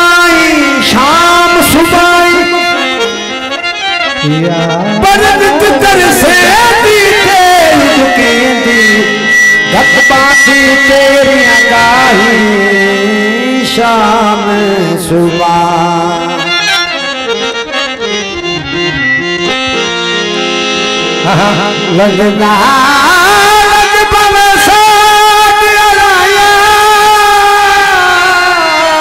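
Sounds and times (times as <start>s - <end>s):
ornamented folk melody: 0.0s - 29.0s.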